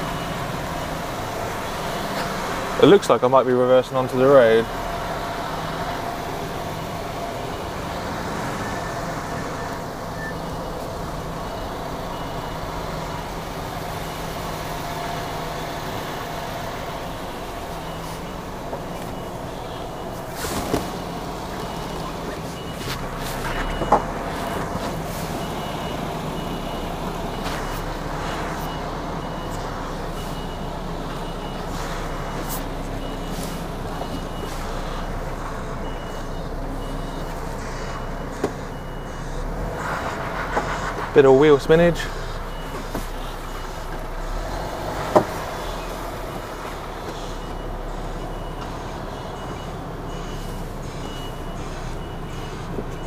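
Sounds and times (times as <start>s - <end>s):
diesel lorry engine running: 0.0s - 53.0s
reversing alarm beeping: 0.0s - 53.0s.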